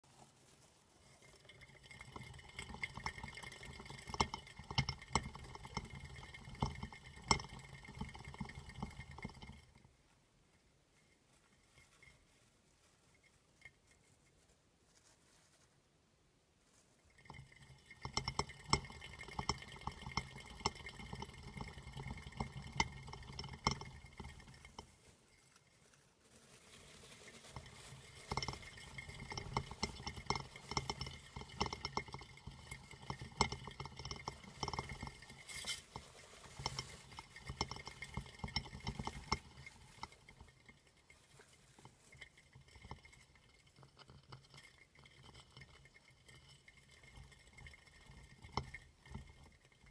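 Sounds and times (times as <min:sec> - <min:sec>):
hamster wheel spinning and rattling: 0:00.0 - 0:15.7, 0:16.7 - 0:49.9.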